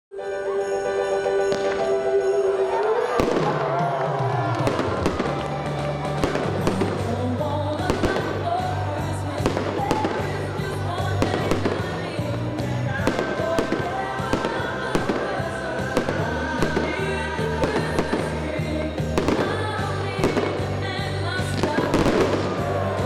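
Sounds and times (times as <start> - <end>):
fireworks banging: 1.4 - 23.0
music with bass line: 3.2 - 23.0.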